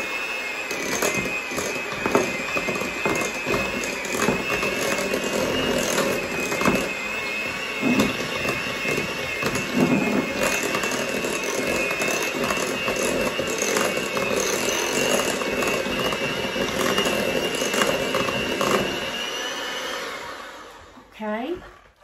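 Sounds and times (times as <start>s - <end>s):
electric hand mixer whining: 0.0s - 21.1s.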